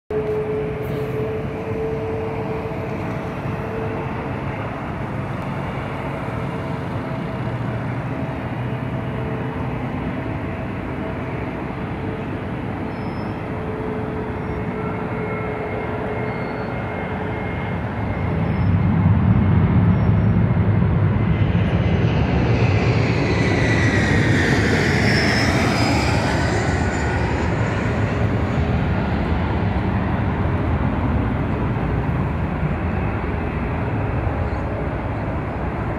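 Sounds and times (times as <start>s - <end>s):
jet airliner passing overhead: 0.1s - 35.9s.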